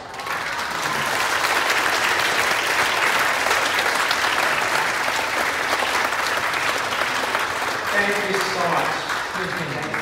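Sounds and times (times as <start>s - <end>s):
congregation clapping: 0.0s - 10.0s.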